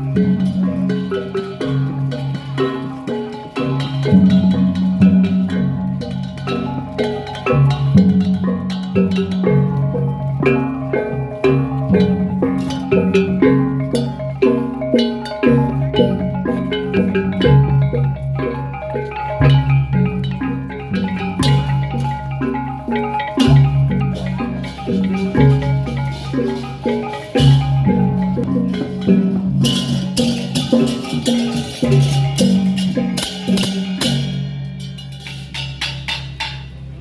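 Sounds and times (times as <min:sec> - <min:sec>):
metallophones playing interlocking notes: 0:00.0 - 0:37.0.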